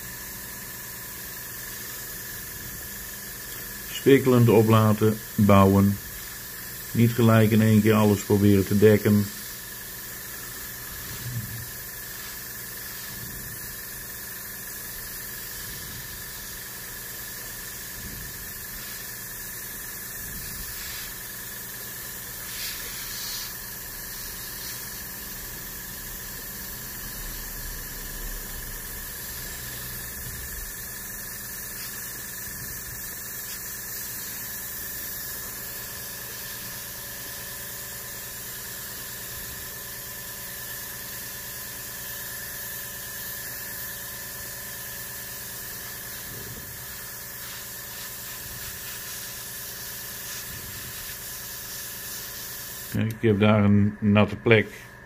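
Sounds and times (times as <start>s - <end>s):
airbrush spraying hiss: 0.0s - 53.1s.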